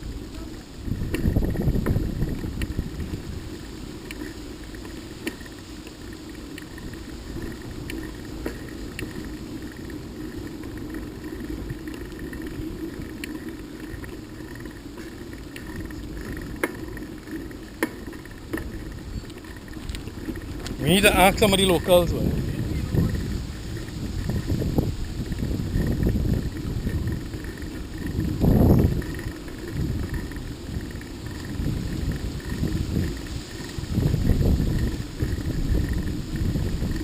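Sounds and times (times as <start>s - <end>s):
motorcycle engine drone: 0.0s - 37.0s
wind rumble on microphone: 0.0s - 37.0s.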